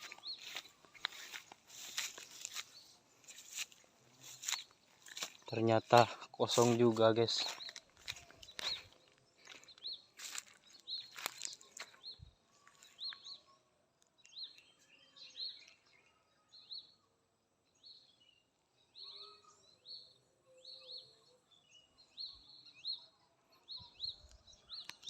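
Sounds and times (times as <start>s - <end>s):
faint high bird chirps: 0.0s - 25.0s.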